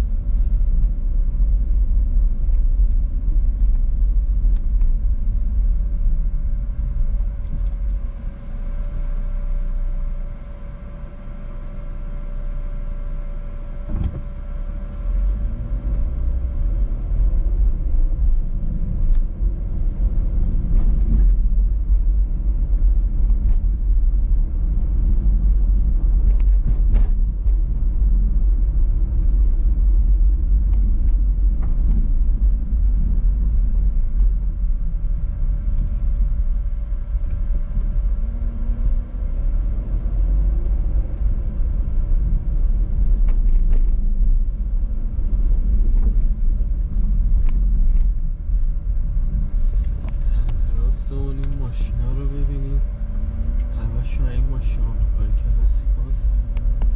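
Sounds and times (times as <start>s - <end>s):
car engine and road rumble: 0.0s - 56.9s.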